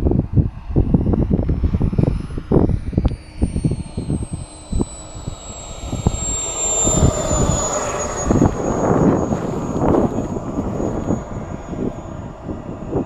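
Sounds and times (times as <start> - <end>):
model jet engine whine: 0.0 - 13.0
wind buffeting microphone: 0.0 - 13.0.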